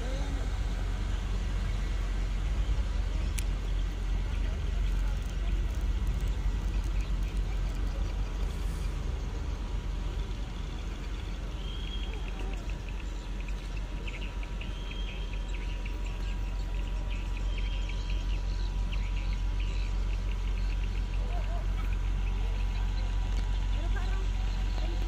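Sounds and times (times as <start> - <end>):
idling truck and ship engines: 0.0 - 25.0.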